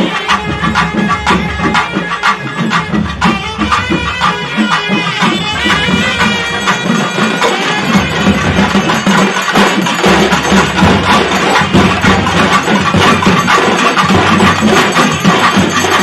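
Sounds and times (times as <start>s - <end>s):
loud fast drumming: 0.0s - 16.0s.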